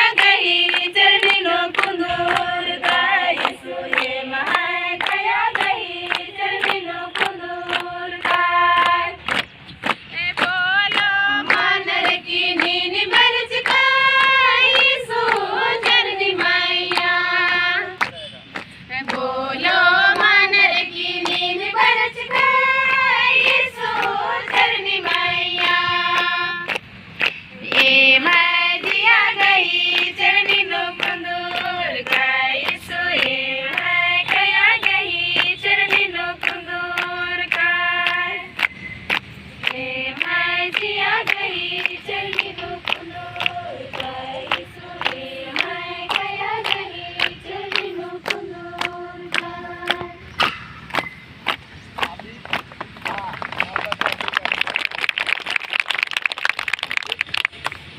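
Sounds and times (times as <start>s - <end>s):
women and children singing hymn: 0.0s - 18.1s, 18.9s - 26.8s, 27.5s - 38.7s, 39.6s - 50.4s
hand clapping: 0.0s - 57.9s.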